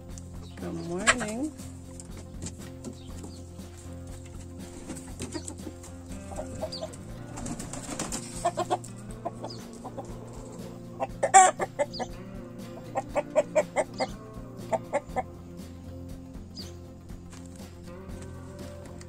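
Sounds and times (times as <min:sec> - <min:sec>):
chickens clucking: 0:00.1 - 0:19.0.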